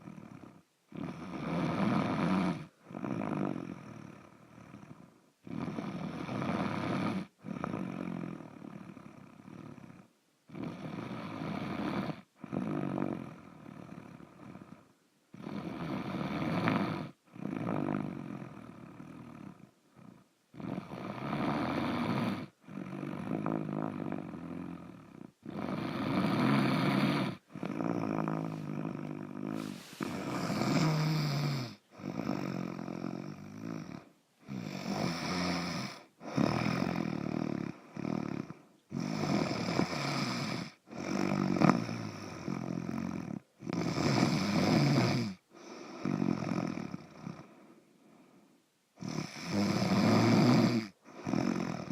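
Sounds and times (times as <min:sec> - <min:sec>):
rough pitched snoring: 0:00.0 - 0:47.6, 0:49.0 - 0:51.9.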